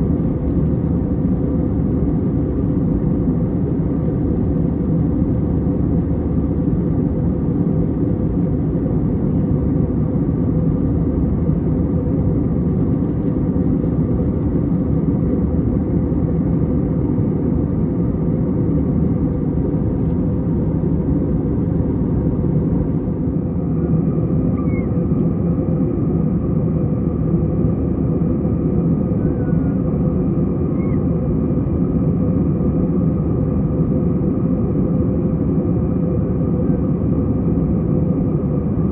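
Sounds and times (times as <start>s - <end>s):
jet cabin engine and airflow rush: 0.0s - 38.9s.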